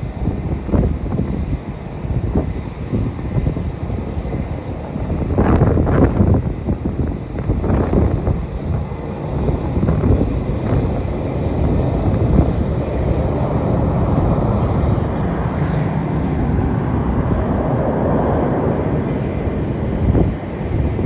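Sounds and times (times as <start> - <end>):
steady low rumble: 0.0 - 21.0
wind buffeting microphone: 0.0 - 21.0.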